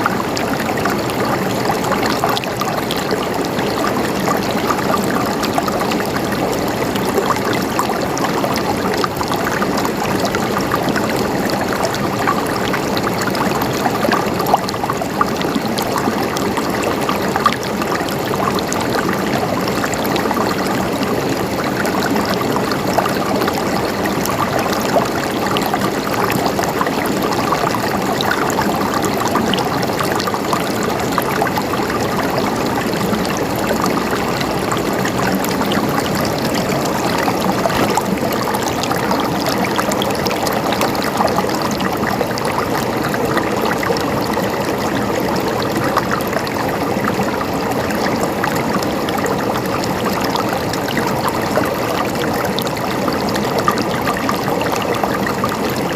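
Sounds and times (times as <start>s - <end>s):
stream trickling over rocks: 0.0s - 55.9s.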